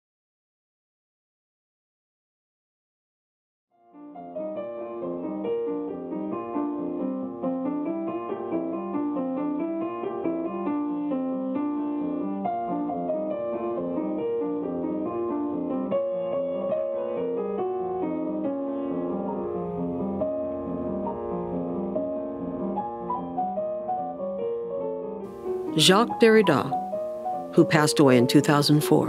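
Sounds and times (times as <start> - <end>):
piano music: 3.8 - 29.0.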